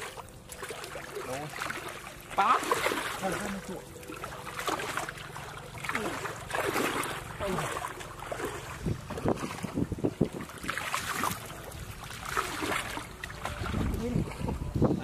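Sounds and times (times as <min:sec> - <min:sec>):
pond water sloshing and splashing: 0:00.0 - 0:15.0.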